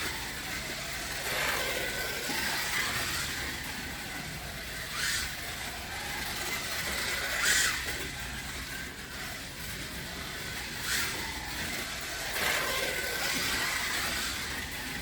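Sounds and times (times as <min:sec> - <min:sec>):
slot car electric motor whining: 0:00.0 - 0:15.0.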